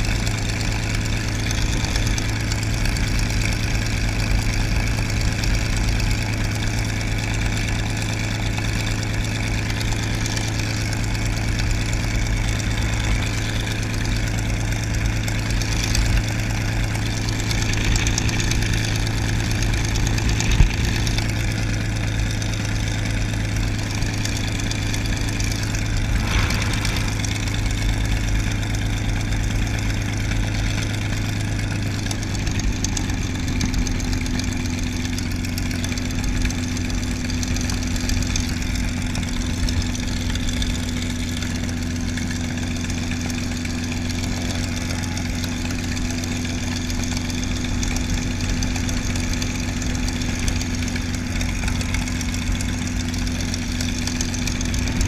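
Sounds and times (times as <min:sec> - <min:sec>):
aircraft engine idling: 0:00.0 - 0:55.0.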